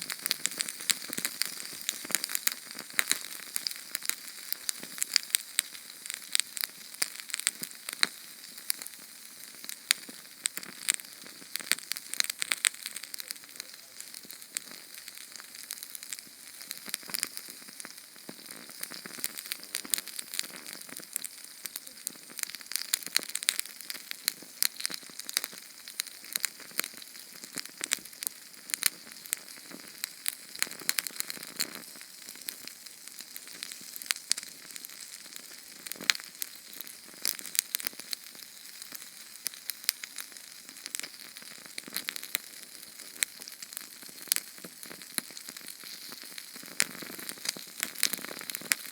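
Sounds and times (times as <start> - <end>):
canned fuel flame hissing and crackling: 0.0 - 48.9.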